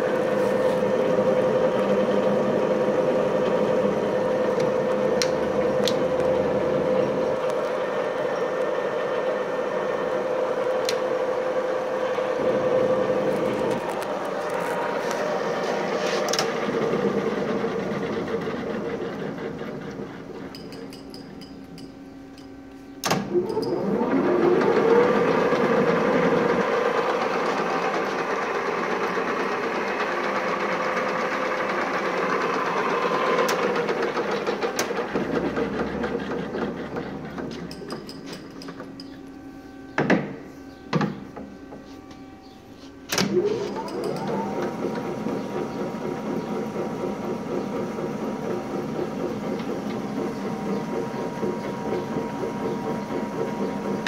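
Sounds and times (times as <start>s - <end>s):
lathe spindle rising whine: 0.0s - 20.9s, 22.0s - 54.0s
lathe machine hum: 0.0s - 54.0s.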